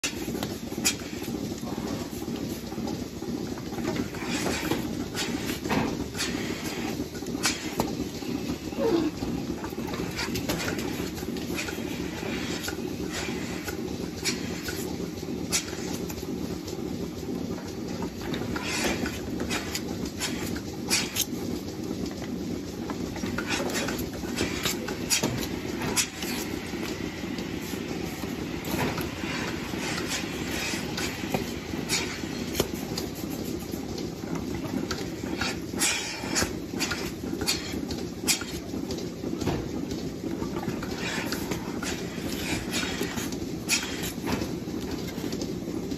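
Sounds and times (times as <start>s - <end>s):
low mechanical hum: 0.0s - 45.9s
milking clusters clicking and clanking: 0.0s - 45.9s.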